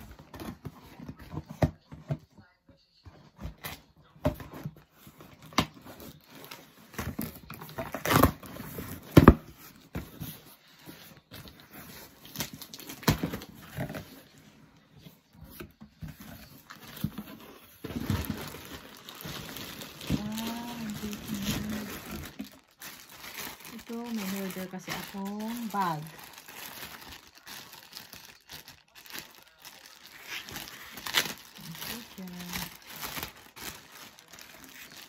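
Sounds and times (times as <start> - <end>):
packaging rustling: 4.5 - 35.0.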